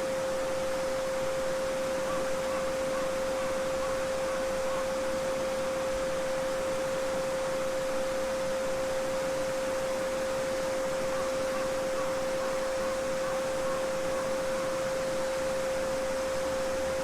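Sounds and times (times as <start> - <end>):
steady pure sine tone: 0.0 - 17.0.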